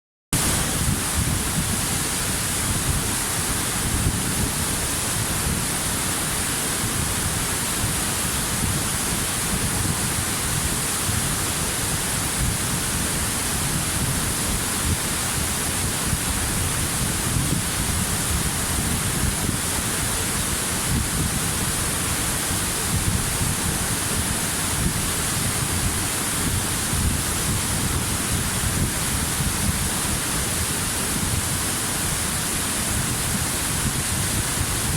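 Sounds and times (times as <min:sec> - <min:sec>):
waterfall roaring: 0:00.4 - 0:34.9.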